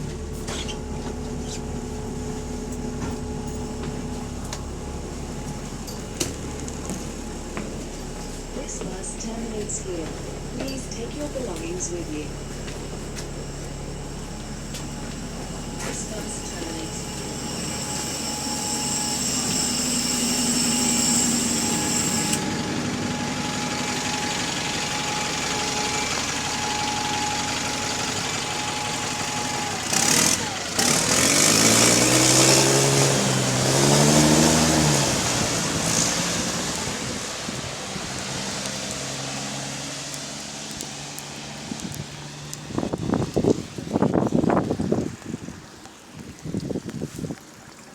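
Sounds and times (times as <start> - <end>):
diesel bus engine revving: 0.0 - 43.4.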